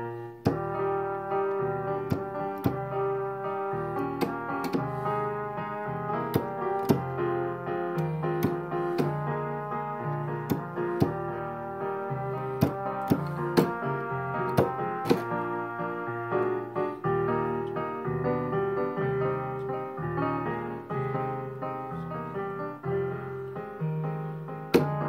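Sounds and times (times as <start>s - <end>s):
electronic piano chords: 0.0s - 25.0s.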